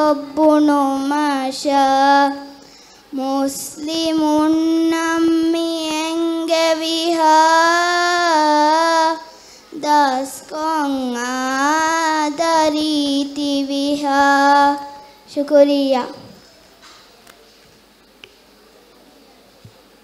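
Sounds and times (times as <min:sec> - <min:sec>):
girl singing into a microphone: 0:00.0 - 0:16.4.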